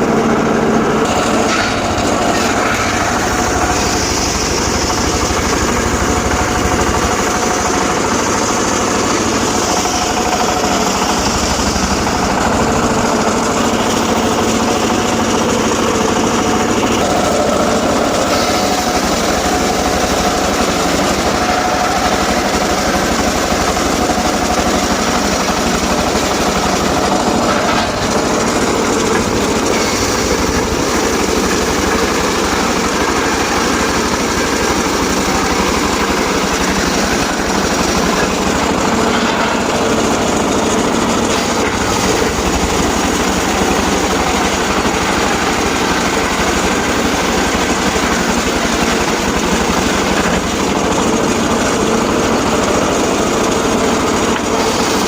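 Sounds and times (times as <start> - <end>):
sawmill blade sawing logs: 0.0 - 55.0.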